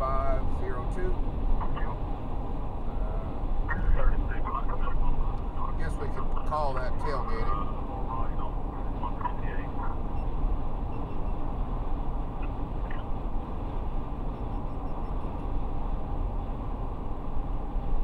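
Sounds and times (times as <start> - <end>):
car cabin road noise: 0.0 - 18.0.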